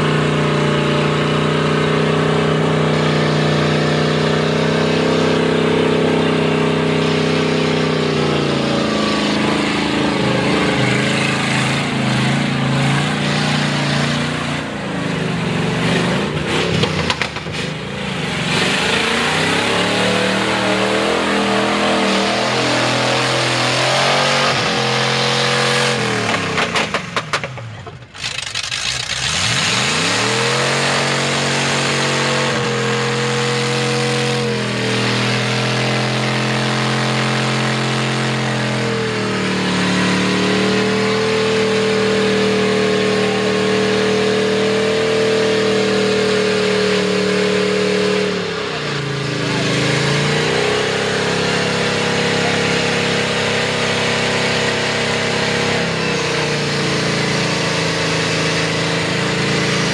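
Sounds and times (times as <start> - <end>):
truck engine revving: 0.0 - 59.9
tyres churning mud: 0.0 - 59.9.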